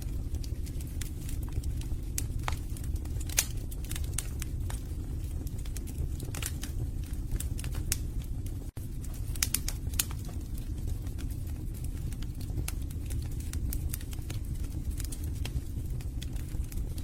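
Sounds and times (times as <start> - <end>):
fire burning in fireplace: 0.0 - 17.0
logs crackling and popping: 0.0 - 17.0.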